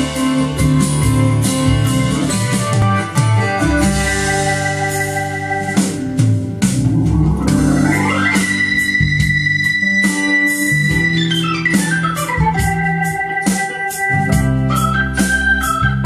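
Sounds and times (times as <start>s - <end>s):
steady drum beat: 0.0s - 11.1s, 11.8s - 16.0s
electronic organ music: 0.0s - 16.0s.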